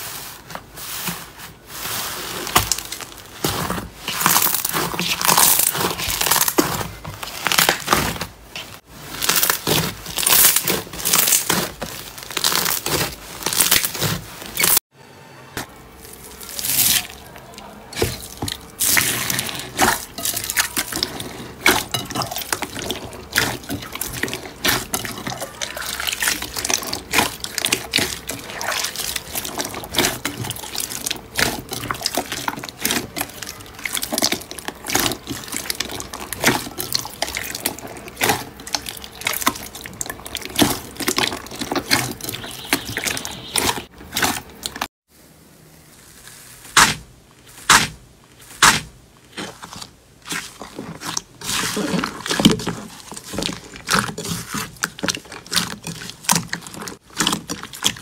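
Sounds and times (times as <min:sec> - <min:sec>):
slime squelching and popping: 0:02.3 - 0:14.8, 0:16.1 - 0:44.9, 0:46.6 - 0:58.0.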